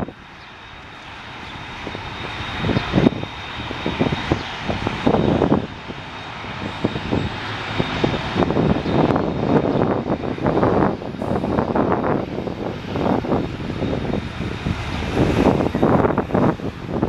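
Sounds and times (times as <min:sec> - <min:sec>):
airliner engines whining: 0:00.0 - 0:17.0
wind buffeting microphone: 0:00.0 - 0:17.0.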